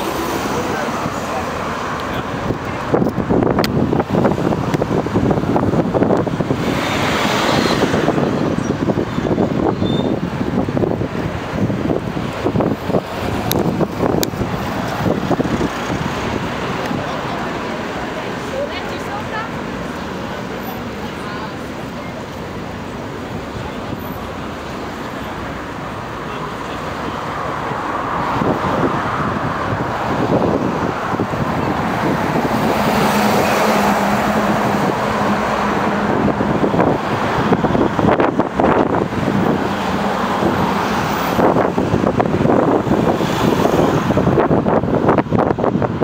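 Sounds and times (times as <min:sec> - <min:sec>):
city street traffic: 0:00.0 - 0:46.0
wind rushing over microphone: 0:00.0 - 0:46.0.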